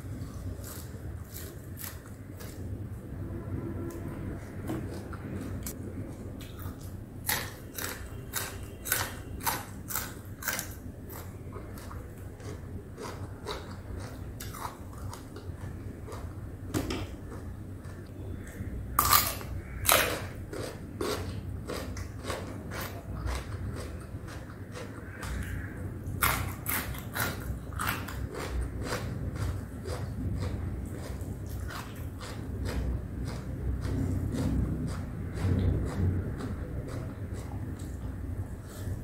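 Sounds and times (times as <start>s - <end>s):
chewing crunchy greens: 0.0s - 3.0s, 4.4s - 39.0s.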